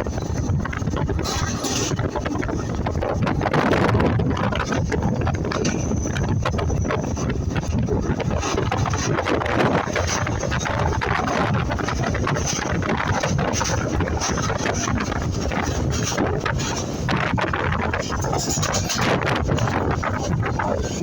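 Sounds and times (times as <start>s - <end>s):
train rumble and clatter: 0.0s - 21.0s
wind buffeting microphone: 0.0s - 21.0s.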